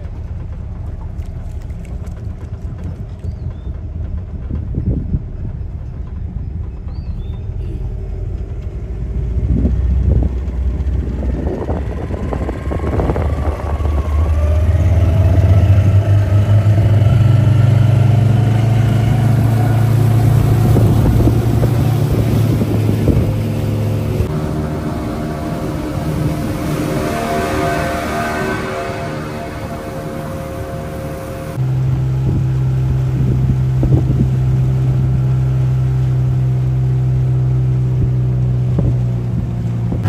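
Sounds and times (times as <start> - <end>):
motorboat engine running: 0.0 - 40.0.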